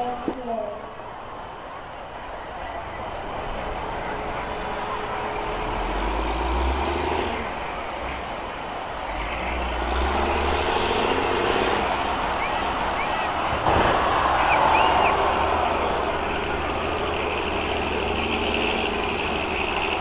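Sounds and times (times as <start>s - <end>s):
bus engines revving: 0.0s - 20.0s.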